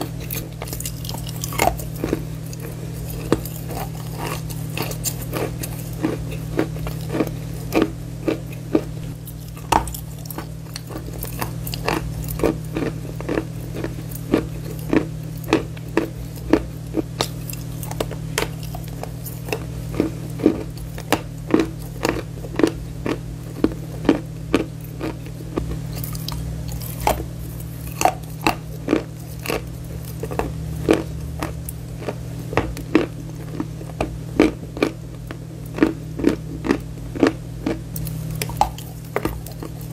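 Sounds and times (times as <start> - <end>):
chewing crunchy chalk: 0.0 - 39.9
steady low hum: 0.0 - 39.9.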